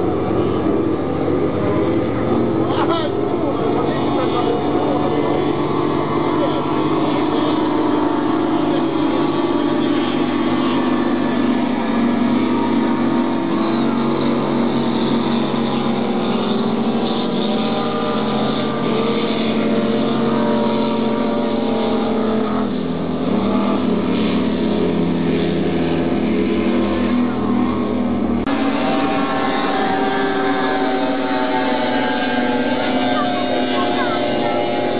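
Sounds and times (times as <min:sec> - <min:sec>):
racing powerboat engines: 0:00.0 - 0:34.9.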